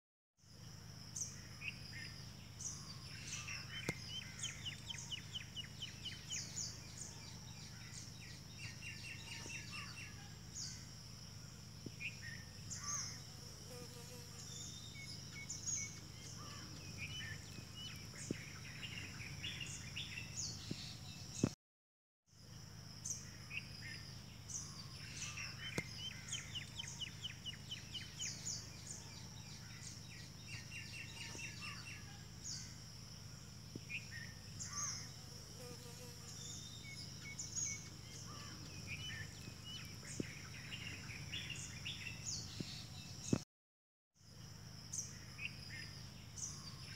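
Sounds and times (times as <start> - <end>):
small birds chirping: 0.5 - 11.0, 11.8 - 21.6, 23.0 - 32.8, 33.6 - 43.4
high insect drone: 0.5 - 21.5, 22.4 - 43.4.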